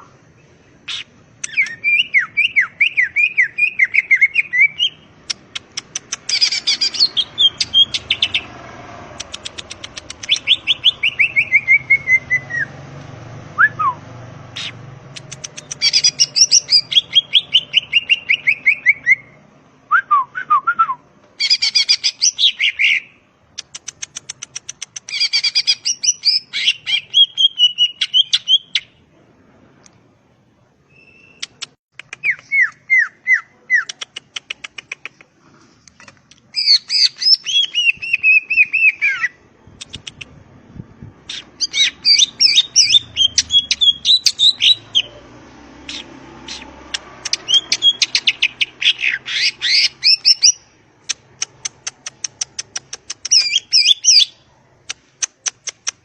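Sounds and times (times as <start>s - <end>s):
bird singing clicking trills and whistles: 0.8s - 8.5s, 9.2s - 14.0s, 14.6s - 19.2s, 21.4s - 28.9s, 30.9s - 35.3s, 35.9s - 40.4s, 41.3s - 45.2s, 45.8s - 56.0s.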